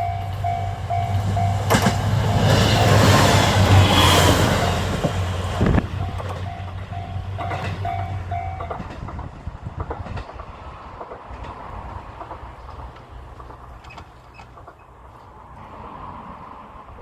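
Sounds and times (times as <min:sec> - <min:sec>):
train wheels clicking over rail joints: 0:00.0 - 0:16.9.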